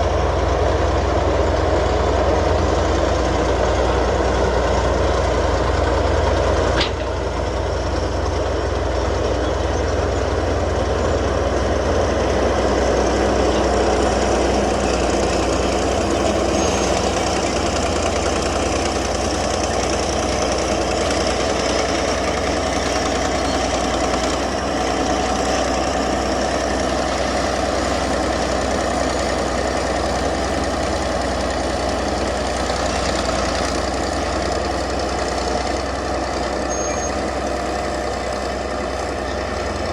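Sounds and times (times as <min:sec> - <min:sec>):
bulldozer diesel engine rumble: 0:00.0 - 0:39.9.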